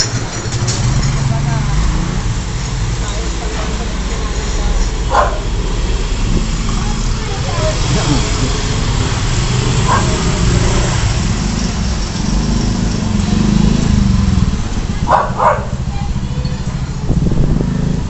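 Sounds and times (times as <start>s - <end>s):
people's voices in background: 0.0s - 11.3s, 13.1s - 18.0s
car engines passing: 0.0s - 18.0s
motorcycle engines passing: 0.0s - 18.0s.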